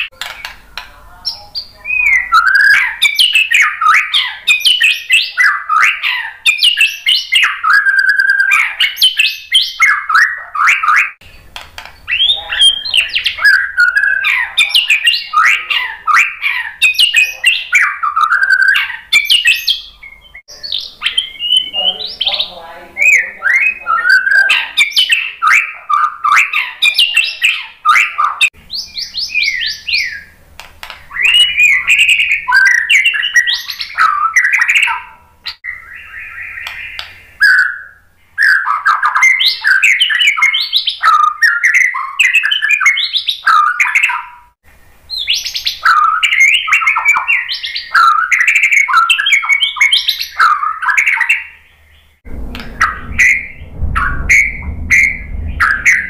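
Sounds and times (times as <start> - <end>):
bird singing whistles and trills: 1.2 - 30.4, 31.1 - 44.5, 45.1 - 56.0.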